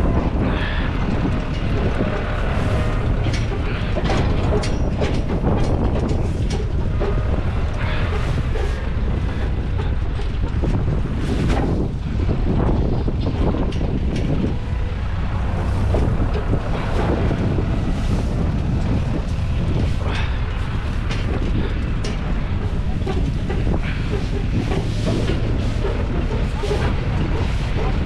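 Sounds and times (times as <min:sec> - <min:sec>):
knocks and rattles: 0:00.0 - 0:28.0
tractor engine rumbling: 0:00.0 - 0:28.0.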